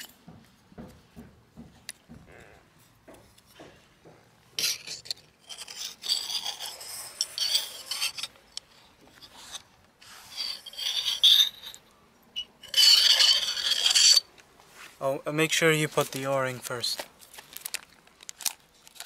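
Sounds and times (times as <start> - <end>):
hands rubbing and scraping parts: 0.0 - 19.0.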